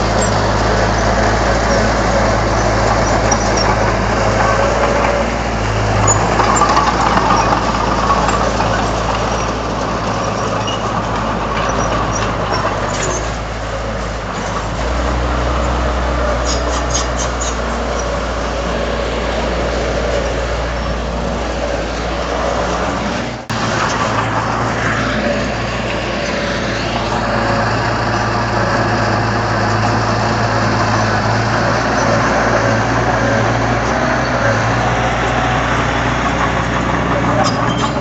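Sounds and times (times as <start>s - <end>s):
heavy diesel machinery running: 0.0s - 38.0s.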